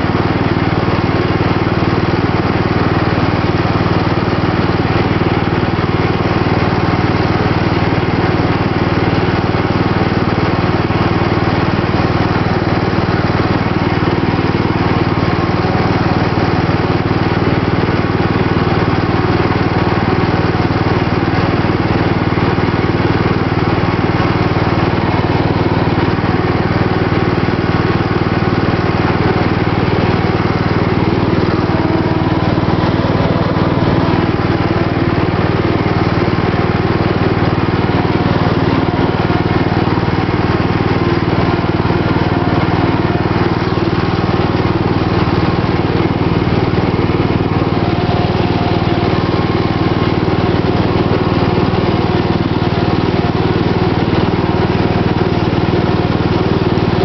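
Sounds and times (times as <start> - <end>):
riding lawn mower engine running: 0.0 - 57.0.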